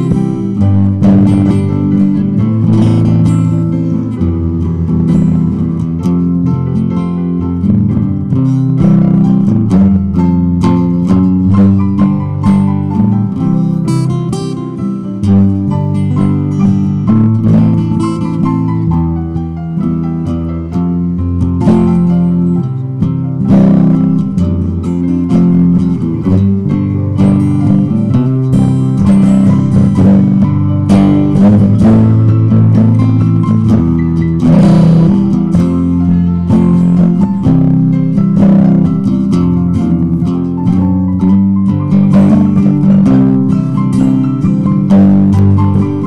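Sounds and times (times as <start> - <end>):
low bass line: 0.0 - 46.0
plucked guitar notes: 0.0 - 46.0.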